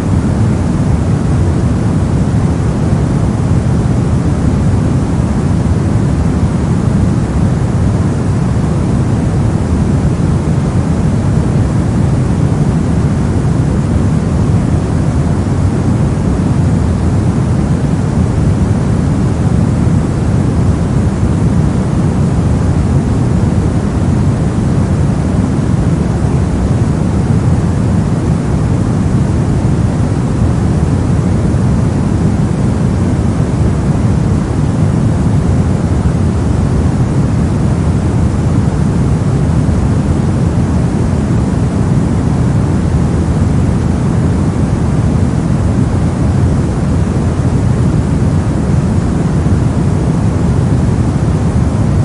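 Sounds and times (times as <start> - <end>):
brown noise hiss: 0.0 - 52.0.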